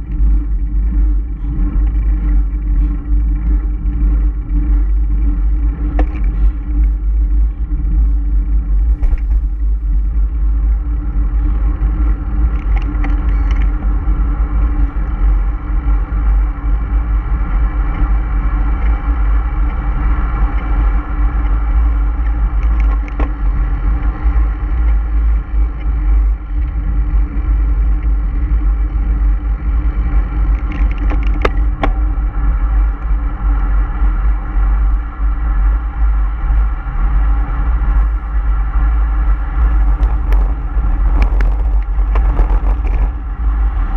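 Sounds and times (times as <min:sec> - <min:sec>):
road and wind rumble: 0:00.0 - 0:43.9
vehicle engine drone: 0:00.0 - 0:43.9.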